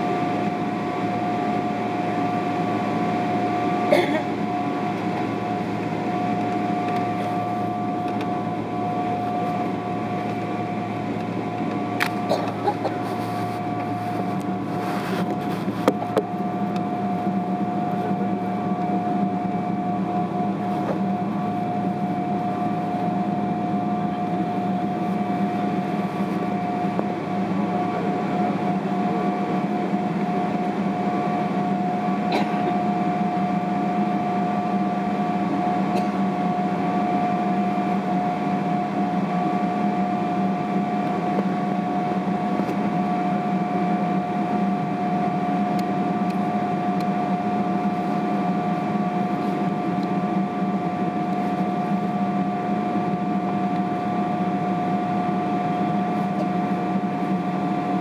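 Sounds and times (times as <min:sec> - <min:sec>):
aircraft cabin drone: 0:00.0 - 0:58.0.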